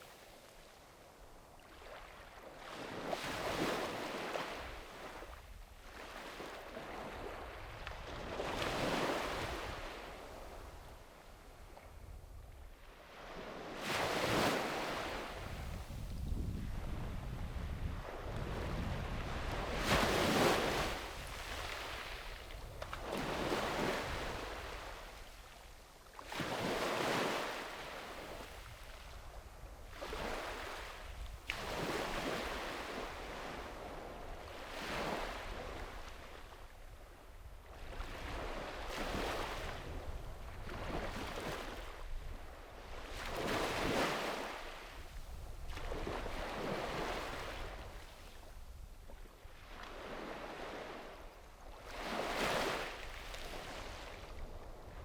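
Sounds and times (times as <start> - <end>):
sea waves breaking on shore: 1.2 - 11.9, 12.8 - 16.2, 16.8 - 36.8, 37.4 - 55.0.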